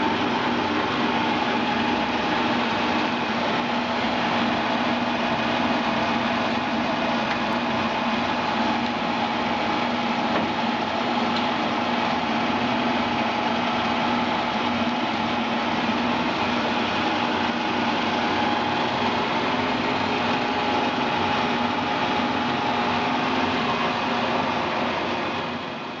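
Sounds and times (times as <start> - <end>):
lathe mechanical hum: 0.0 - 26.0.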